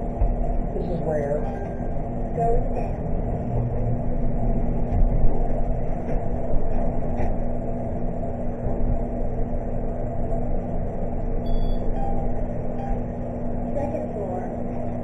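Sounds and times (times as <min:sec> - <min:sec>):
constant low hum: 0:00.0 - 0:15.0
elevator rumble: 0:00.0 - 0:15.0.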